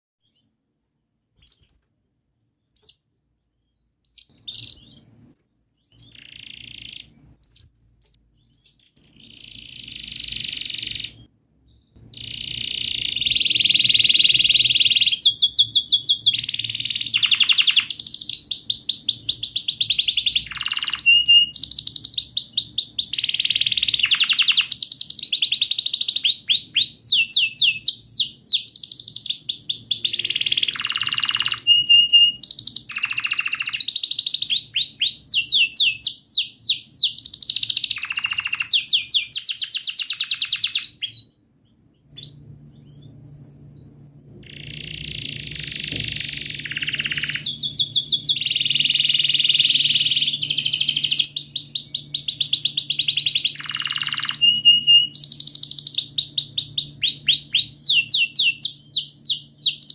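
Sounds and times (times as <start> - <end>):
canary singing: 1.4 - 1.8, 2.6 - 59.9.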